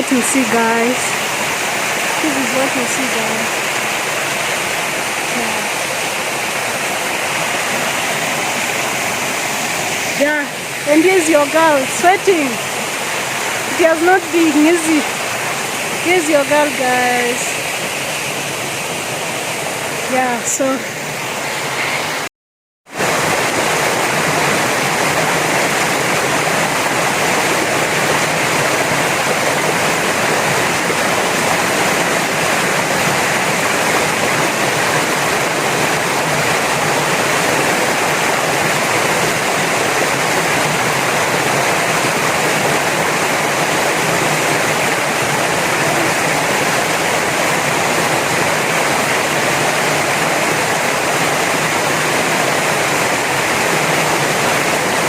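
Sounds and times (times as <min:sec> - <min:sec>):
waterfall: 0:00.0 - 0:22.3, 0:22.9 - 0:55.0.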